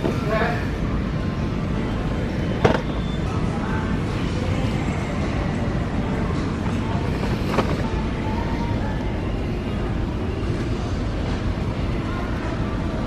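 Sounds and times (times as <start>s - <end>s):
supermarket background rumble: 0.0s - 13.0s.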